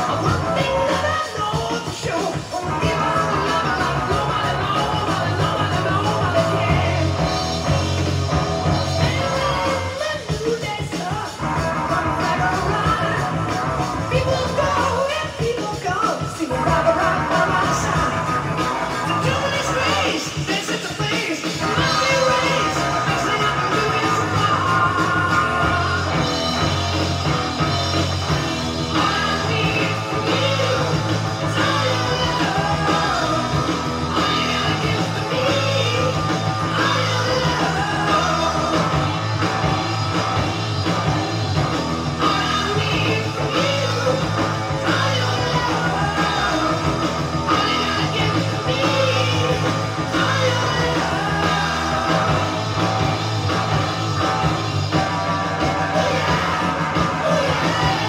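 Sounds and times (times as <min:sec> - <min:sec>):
rock song with singing: 0:00.0 - 0:58.0.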